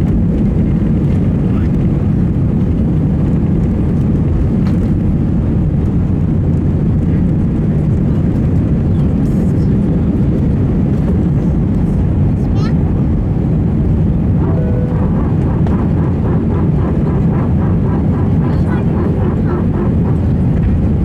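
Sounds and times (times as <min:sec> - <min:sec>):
jet engines roaring in cabin: 0:00.0 - 0:21.0.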